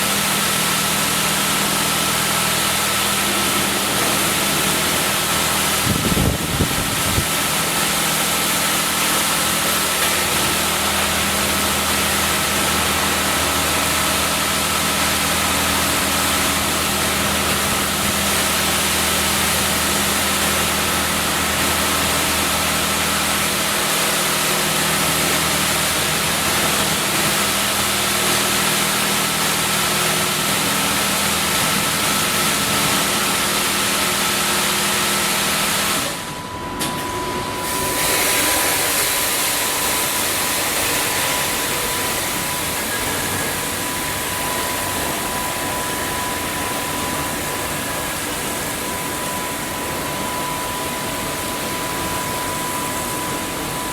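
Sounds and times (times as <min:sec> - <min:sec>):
car wash machine humming: 0:00.0 - 0:53.9
thin steady whine: 0:00.0 - 0:53.9.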